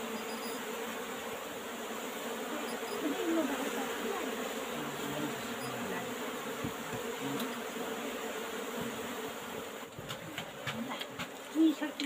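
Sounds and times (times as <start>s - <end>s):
bees buzzing loudly: 0.0s - 12.0s.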